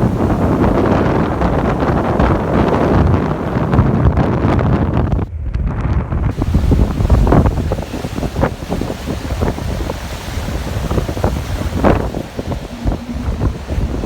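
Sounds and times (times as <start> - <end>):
surf breaking on beach: 0.0 - 5.2, 6.3 - 14.0
wind buffeting microphone: 0.0 - 14.0.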